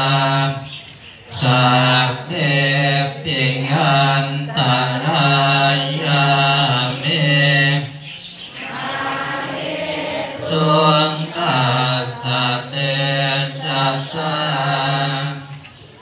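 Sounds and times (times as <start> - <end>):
group chanting in unison: 0.0 - 15.6.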